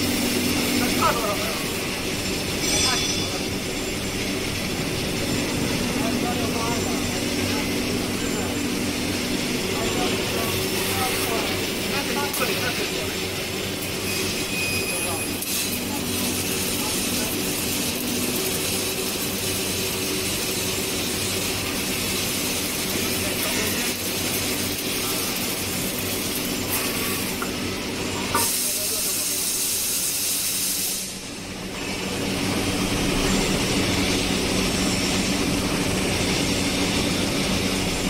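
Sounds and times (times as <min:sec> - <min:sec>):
machine hum: 0:00.0 - 0:28.4, 0:31.1 - 0:38.0.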